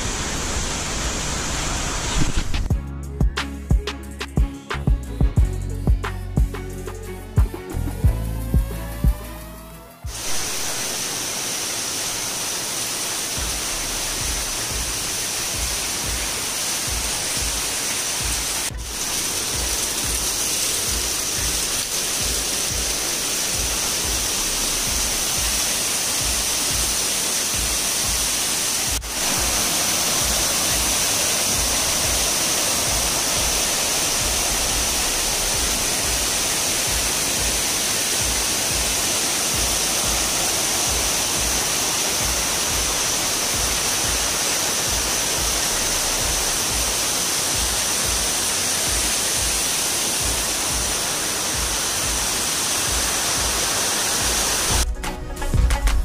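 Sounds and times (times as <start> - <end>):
waterfall rushing: 0.0 - 2.7, 8.6 - 54.8
background music: 2.7 - 11.0, 13.0 - 56.0.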